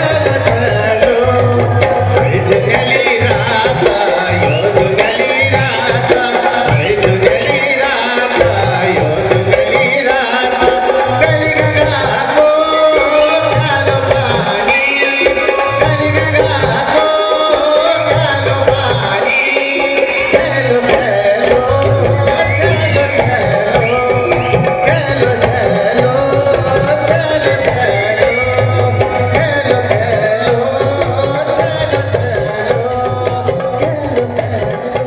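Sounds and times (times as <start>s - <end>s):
folk song: 0.0s - 35.0s
hand drum beat: 0.0s - 35.0s.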